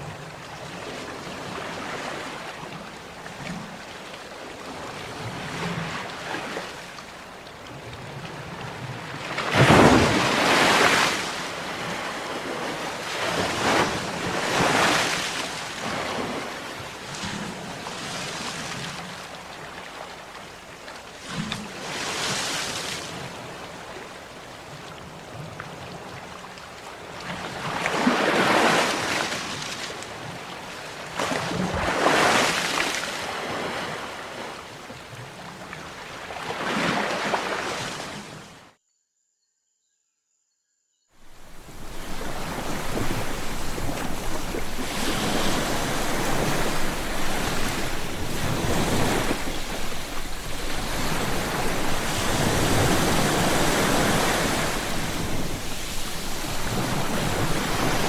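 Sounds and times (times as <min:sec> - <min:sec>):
sea waves breaking on shore: 0:00.0 - 0:38.7, 0:41.2 - 0:58.0.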